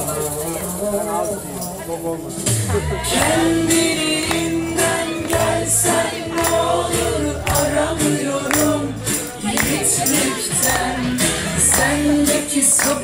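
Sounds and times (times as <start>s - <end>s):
jingling percussion: 0.0s - 13.0s
upbeat dance music with singing: 2.5s - 13.0s.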